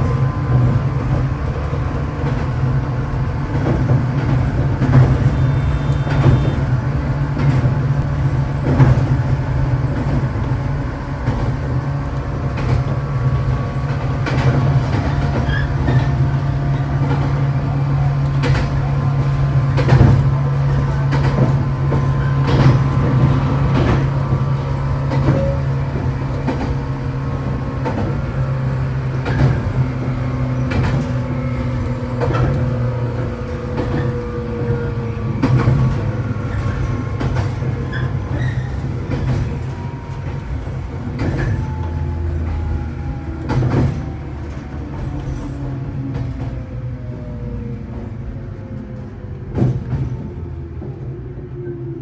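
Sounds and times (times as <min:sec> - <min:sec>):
wheels clicking over rail joints: 0:00.0 - 0:51.5
low train hum: 0:00.0 - 0:52.0.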